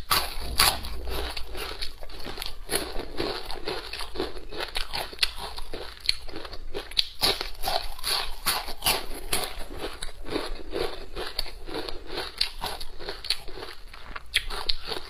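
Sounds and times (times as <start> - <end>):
person chewing crispy food: 0.0 - 15.0.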